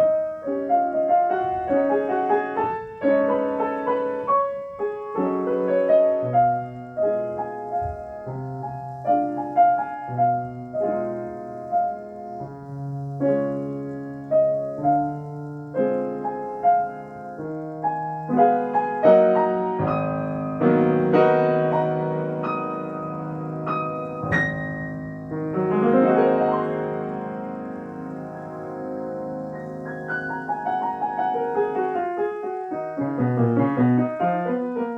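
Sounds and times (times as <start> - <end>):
solo piano classical piece: 0.0 - 34.9.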